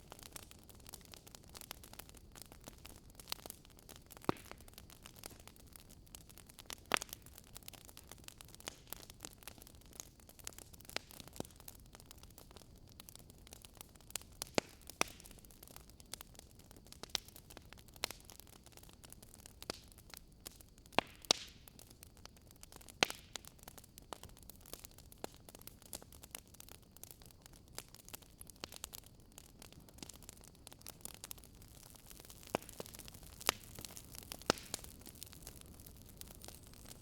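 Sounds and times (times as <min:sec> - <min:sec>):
soft steady hiss: 0:00.0 - 0:37.0
wood fire crackling and popping: 0:00.0 - 0:37.0.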